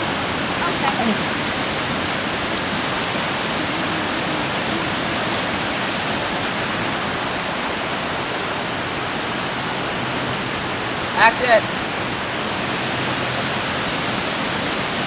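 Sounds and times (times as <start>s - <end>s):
creek cascading over rocks: 0.0s - 15.0s.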